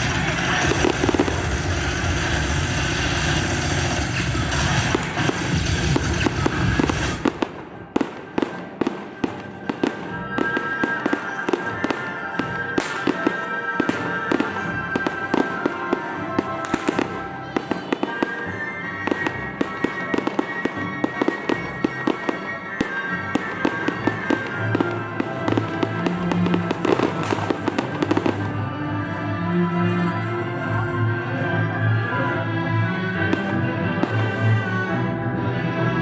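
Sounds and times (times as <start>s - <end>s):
firework bangs and crackles: 0.0s - 29.2s, 33.2s - 35.1s
music playing: 0.0s - 36.0s.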